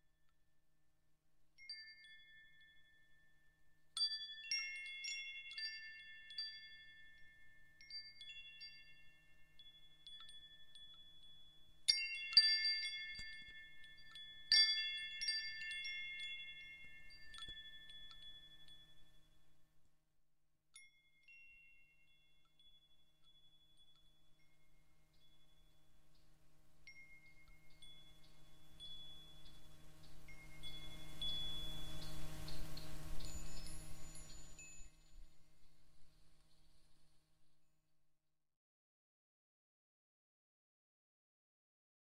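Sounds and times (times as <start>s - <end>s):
wind chimes ringing: 1.6s - 19.7s, 20.8s - 36.3s.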